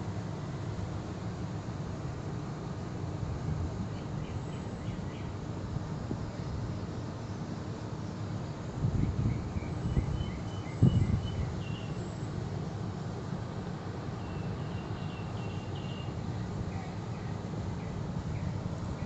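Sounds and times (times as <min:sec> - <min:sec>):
air conditioner unit humming: 0:00.0 - 0:19.0.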